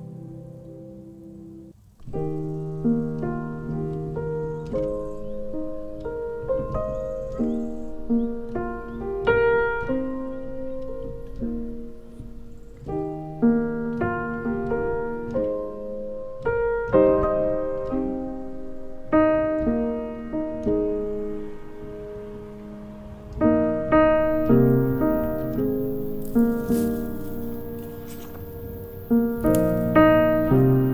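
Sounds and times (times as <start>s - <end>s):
soft piano music: 0.0s - 30.9s.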